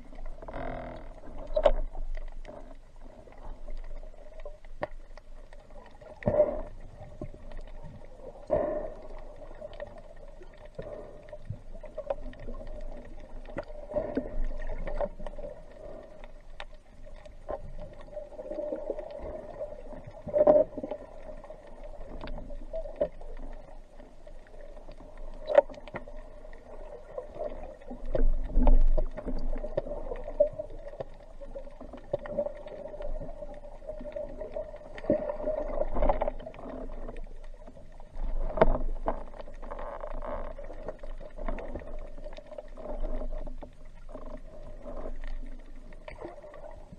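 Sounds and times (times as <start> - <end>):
underwater hum: 0.0 - 46.9
water swishing: 0.0 - 46.9.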